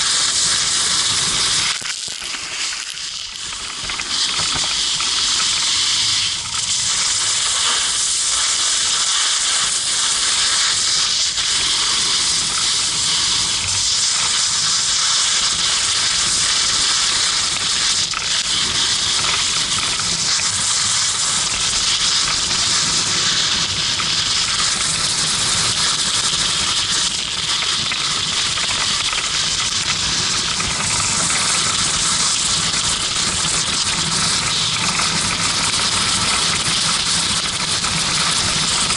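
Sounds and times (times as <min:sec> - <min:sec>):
snowboard sliding over snow: 0:00.0 - 0:38.9.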